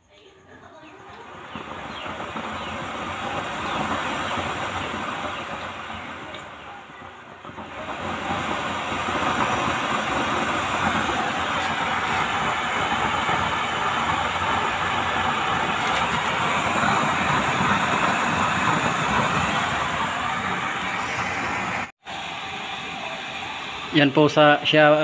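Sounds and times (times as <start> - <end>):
oil burner fan and flame rushing: 0.1 - 25.0.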